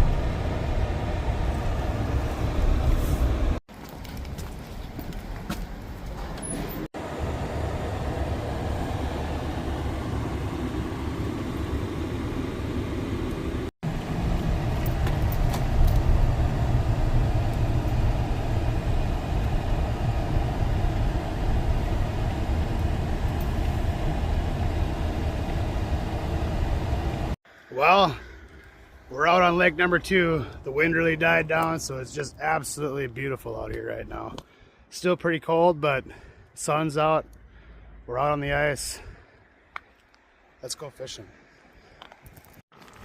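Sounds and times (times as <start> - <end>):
vehicle engine and road rumble: 0.0 - 35.0, 35.8 - 43.0.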